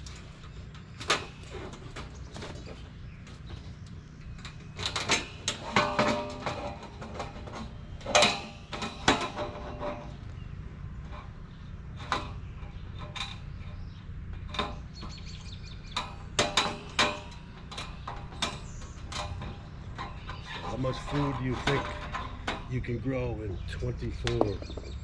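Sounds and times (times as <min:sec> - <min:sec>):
metal panels clanking: 0:00.0 - 0:25.0.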